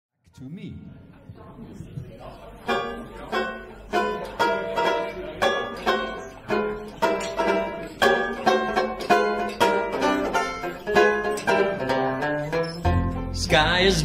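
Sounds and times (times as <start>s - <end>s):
banjo strumming chords: 2.3s - 14.0s
double bass notes: 2.6s - 14.0s.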